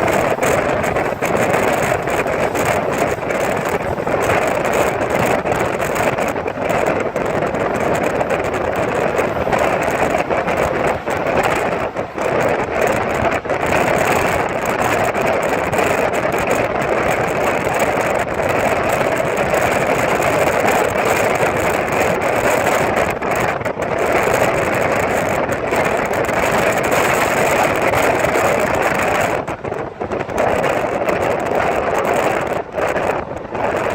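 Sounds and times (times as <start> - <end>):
vehicle travel noise: 0.0 - 33.9
wind buffeting microphone: 0.0 - 33.9.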